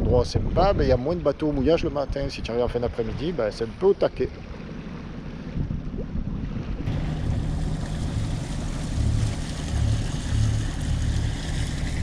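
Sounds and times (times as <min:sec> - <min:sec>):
water rushing along hull: 0:00.0 - 0:12.0
wind: 0:00.0 - 0:12.0
boat engine humming: 0:00.6 - 0:12.0.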